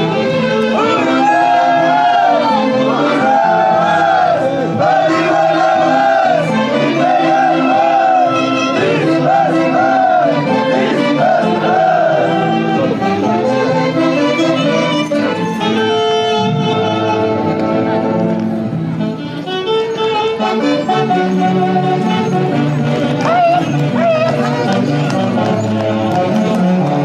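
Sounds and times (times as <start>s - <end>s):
orchestra playing high vibrato melody: 0.0s - 25.8s.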